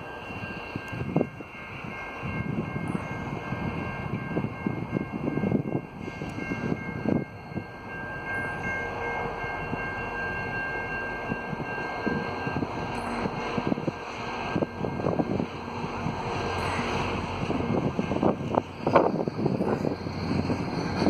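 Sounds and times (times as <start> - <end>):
diesel locomotive engine rumbling: 0.0 - 21.0
level-crossing bell ringing: 0.0 - 21.0
train wheels clattering on rails: 0.0 - 21.0.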